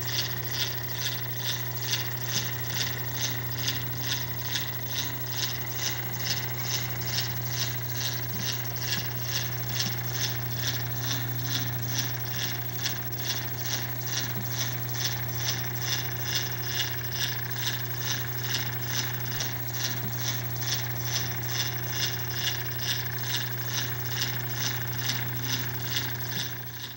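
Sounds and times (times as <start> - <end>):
chain drive humming and ticking: 0.0 - 26.9.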